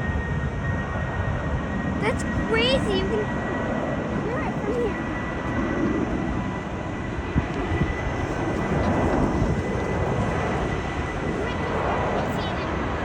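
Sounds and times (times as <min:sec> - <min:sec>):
distant airplane engines rumbling: 0:00.0 - 0:13.0.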